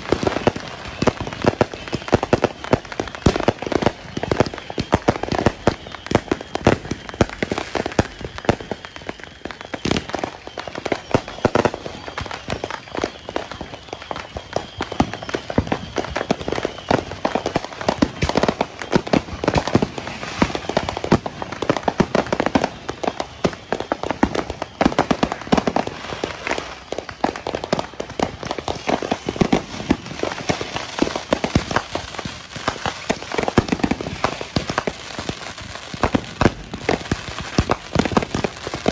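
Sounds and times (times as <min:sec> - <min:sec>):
fireworks popping and banging: 0:00.0 - 0:38.9.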